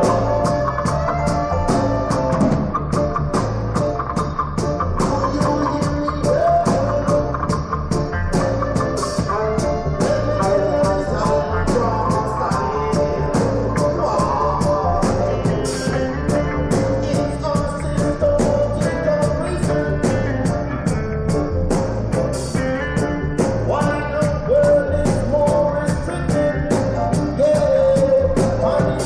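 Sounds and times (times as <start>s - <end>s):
bass: 0.0s - 29.0s
bending lead melody: 0.0s - 29.0s
drum beat with cymbals: 0.0s - 29.0s
guitar: 0.0s - 29.0s.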